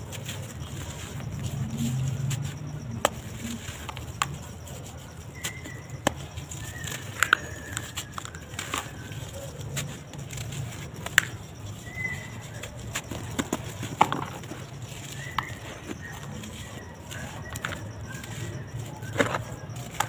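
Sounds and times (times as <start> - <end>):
crunching crumbling cement lumps: 0.0 - 20.0.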